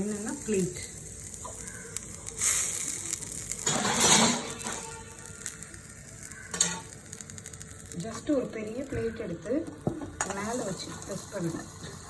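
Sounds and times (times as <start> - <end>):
sandwich sizzling on hot griddle: 0.0 - 12.0.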